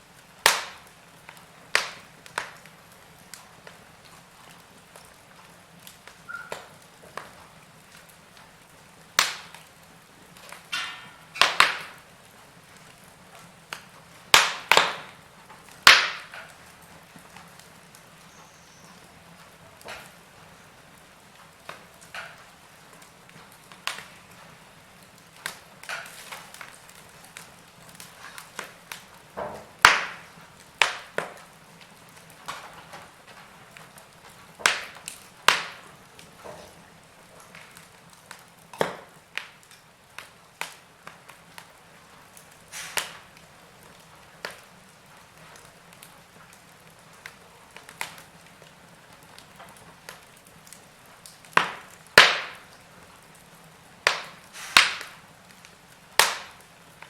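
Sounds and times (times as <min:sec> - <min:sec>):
faint steady hiss: 0:00.0 - 0:57.0
wood fire crackling: 0:00.0 - 0:57.0.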